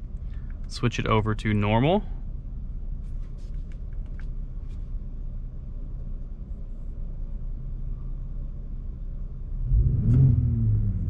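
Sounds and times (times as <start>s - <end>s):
engine idling rumble: 0.0s - 11.0s.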